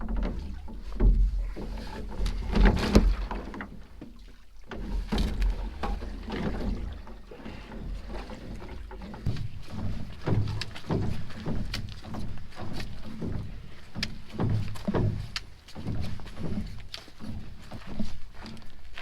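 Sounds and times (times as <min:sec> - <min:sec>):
canoe paddle splashing: 0:00.0 - 0:19.0.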